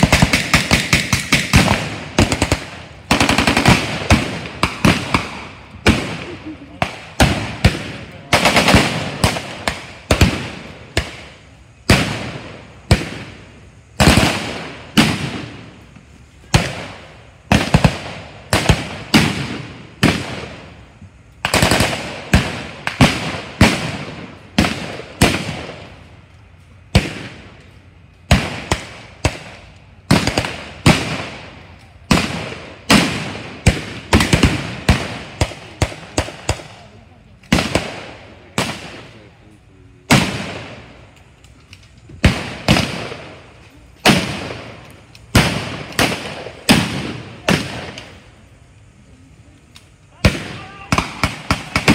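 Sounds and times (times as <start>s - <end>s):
gunshots echoing: 0.0s - 15.8s, 16.4s - 20.8s, 21.4s - 26.1s, 26.9s - 27.7s, 28.3s - 39.3s, 40.1s - 41.1s, 42.2s - 48.3s, 50.2s - 51.9s.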